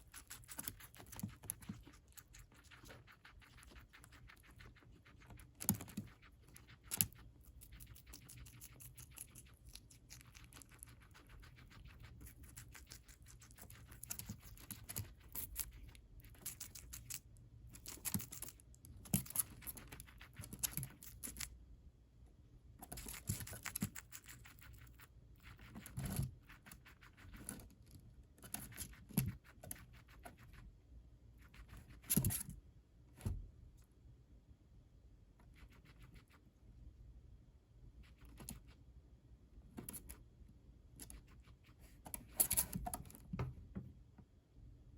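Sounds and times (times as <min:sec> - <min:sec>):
guinea pig chewing lettuce: 0:00.0 - 0:21.6, 0:22.8 - 0:32.6, 0:35.4 - 0:36.5, 0:38.0 - 0:38.9, 0:39.8 - 0:40.2, 0:40.9 - 0:43.0.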